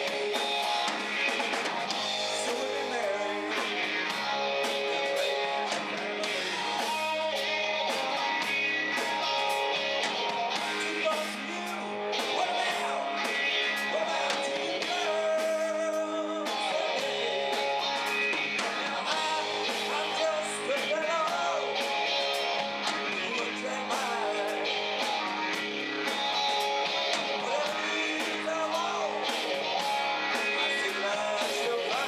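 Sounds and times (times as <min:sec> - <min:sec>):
drum kit beat: 0:00.0 - 0:32.0
electric bass guitar: 0:00.0 - 0:32.0
live rock band playing: 0:00.0 - 0:32.0.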